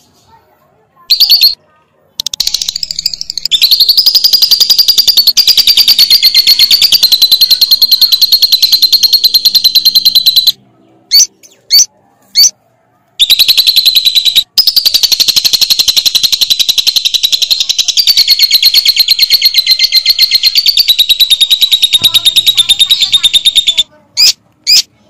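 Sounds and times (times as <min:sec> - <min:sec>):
lovebird chirping and trilling: 0:01.1 - 0:01.6, 0:02.2 - 0:12.6, 0:13.2 - 0:24.9.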